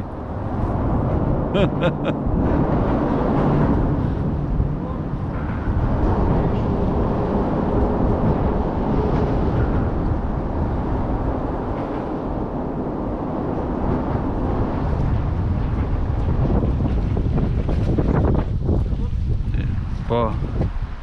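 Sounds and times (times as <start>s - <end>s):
wind across microphone: 0.0s - 21.0s.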